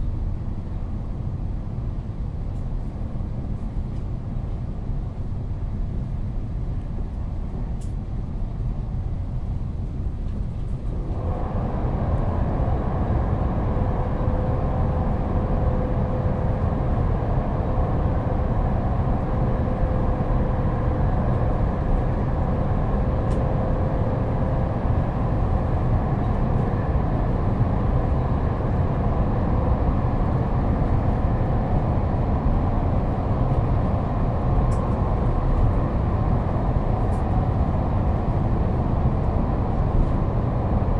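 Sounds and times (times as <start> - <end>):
train running rumble: 0.0 - 40.9.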